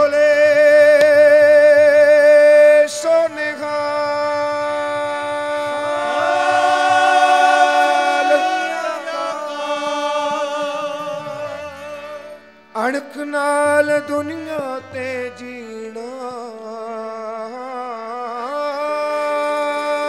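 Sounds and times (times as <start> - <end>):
harmonium drone: 0.0 - 20.0
man singing long wavering notes: 3.0 - 20.0.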